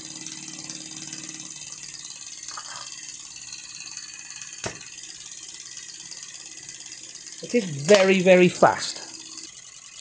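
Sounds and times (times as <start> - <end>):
hot air engine clattering: 0.0 - 10.0.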